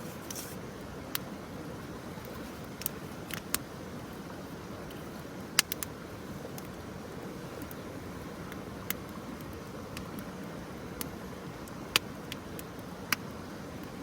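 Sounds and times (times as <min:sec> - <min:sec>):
campfire hissing: 0:00.0 - 0:14.0.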